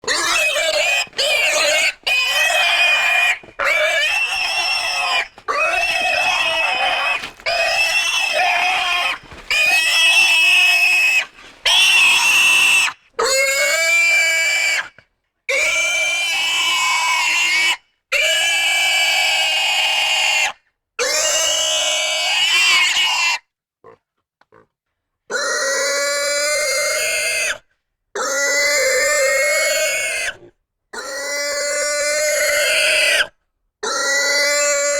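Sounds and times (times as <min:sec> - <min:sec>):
pig squealing: 0:00.0 - 0:14.9, 0:15.5 - 0:23.4, 0:25.3 - 0:27.6, 0:28.2 - 0:34.9.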